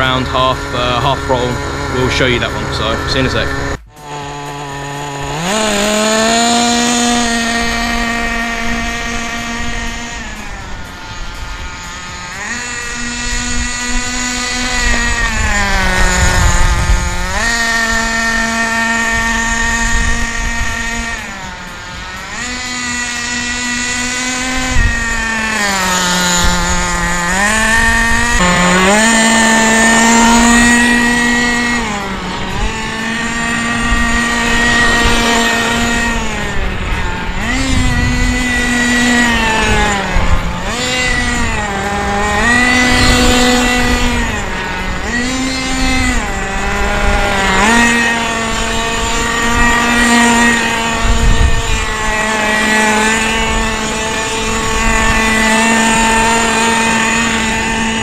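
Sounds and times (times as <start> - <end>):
model car nitro engine revving: 0.0 - 58.0.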